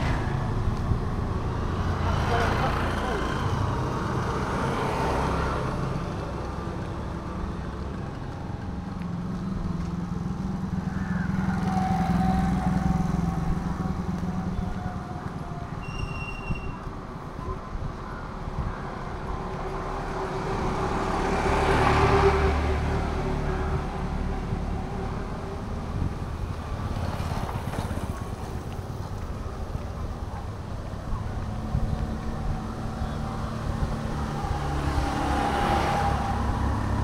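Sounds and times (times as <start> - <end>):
cars and trucks passing: 0.0 - 37.0.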